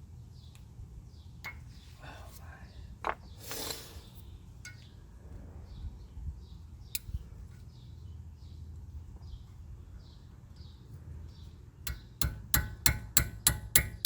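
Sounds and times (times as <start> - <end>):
low steady rumble: 0.0 - 13.8.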